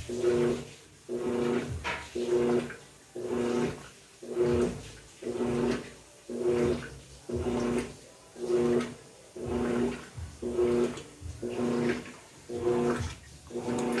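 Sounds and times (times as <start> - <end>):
washing machine motor humming: 0.0 - 14.0
water and clothes sloshing: 0.0 - 14.0.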